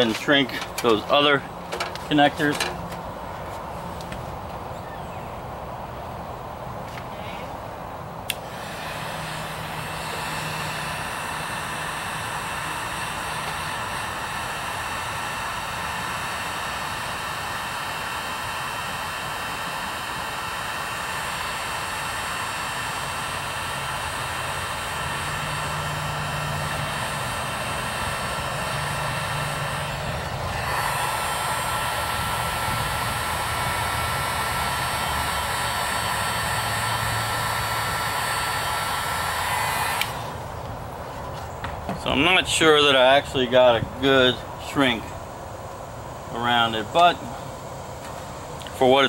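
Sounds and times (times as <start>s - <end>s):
heat gun fan whining: 0.0s - 49.0s.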